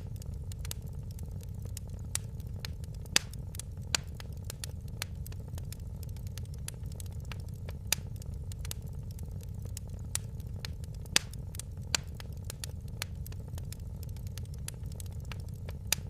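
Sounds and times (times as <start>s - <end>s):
fire popping: 0.0s - 16.0s
fireplace fire crackling: 0.0s - 16.0s.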